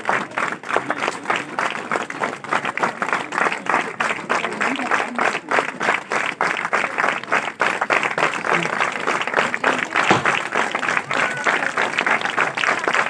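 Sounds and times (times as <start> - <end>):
group applauding: 0.0 - 13.0.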